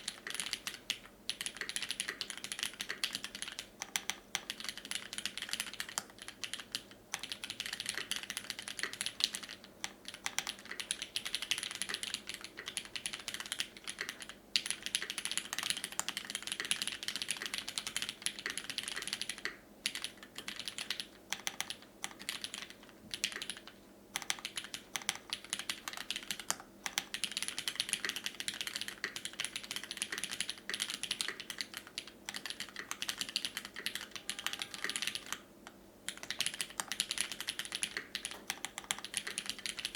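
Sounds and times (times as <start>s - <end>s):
fast typing on mechanical keyboard: 0.0s - 35.4s, 36.1s - 39.9s.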